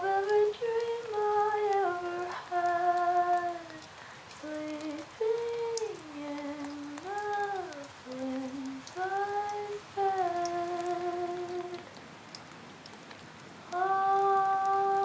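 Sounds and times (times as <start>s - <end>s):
woman humming a melody: 0.0s - 11.8s, 13.7s - 15.0s
faint rain ticks: 0.0s - 15.0s.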